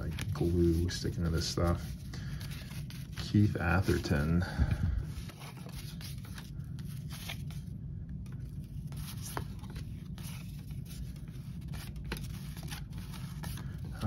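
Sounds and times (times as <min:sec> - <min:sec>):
cardboard cards scraping: 0:00.0 - 0:04.2, 0:05.0 - 0:07.7, 0:08.3 - 0:14.0
low steady hum: 0:00.0 - 0:14.0.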